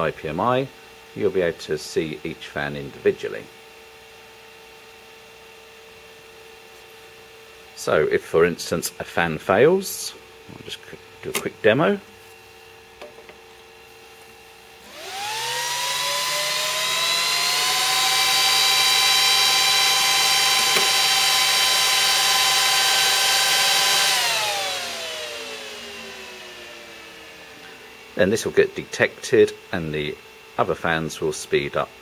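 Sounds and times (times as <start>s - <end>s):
server cooling fans whining: 0.0s - 32.0s.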